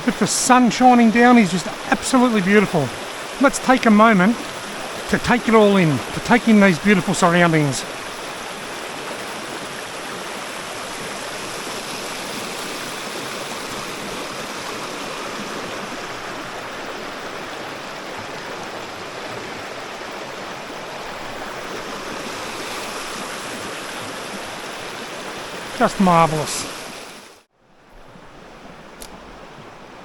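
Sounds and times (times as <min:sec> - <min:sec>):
creek flowing over rocks: 0:00.0 - 0:30.0.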